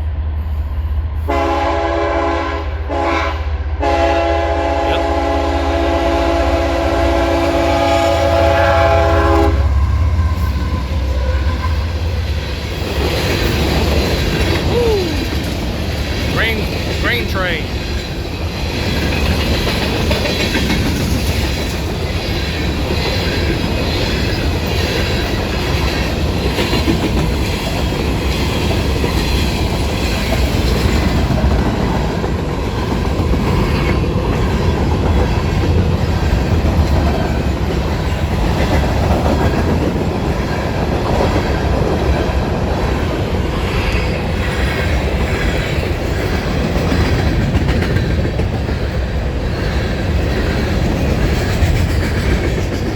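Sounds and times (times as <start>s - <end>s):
train wheels on rails: 3.8s - 52.9s.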